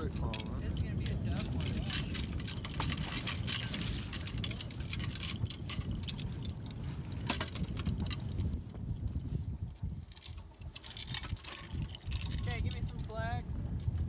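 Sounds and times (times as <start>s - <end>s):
metal chain clinking and rattling: 0.0s - 13.2s
continuous low rumble: 0.0s - 14.0s.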